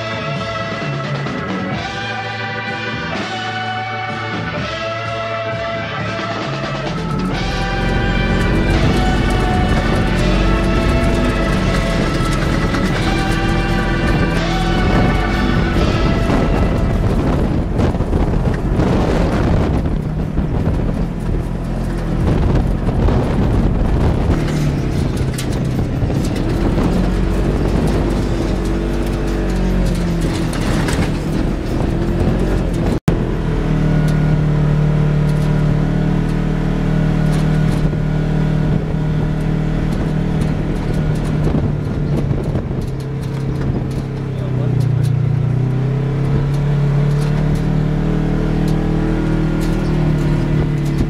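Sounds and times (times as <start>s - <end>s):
off-road vehicle engine: 0.0s - 51.0s
track and wind noise: 0.0s - 51.0s.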